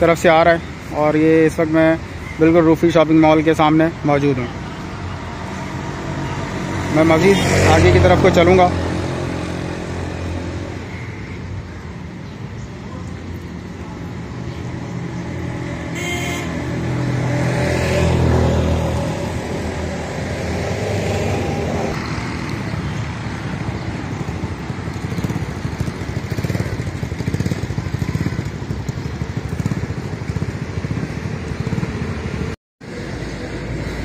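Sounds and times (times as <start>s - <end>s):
street traffic noise: 0.0s - 34.0s.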